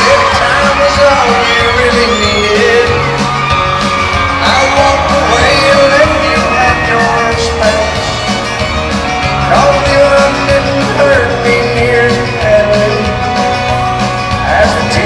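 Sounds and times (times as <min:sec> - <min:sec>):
man singing: 0:00.0 - 0:03.4, 0:04.3 - 0:08.6, 0:09.2 - 0:13.6, 0:14.3 - 0:15.0
country band playing: 0:00.0 - 0:15.0
fans screaming: 0:00.0 - 0:15.0.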